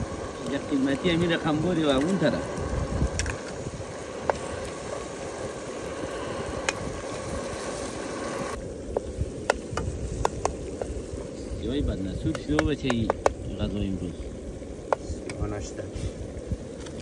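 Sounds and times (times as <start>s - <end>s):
camping stove hiss: 0.0s - 17.0s.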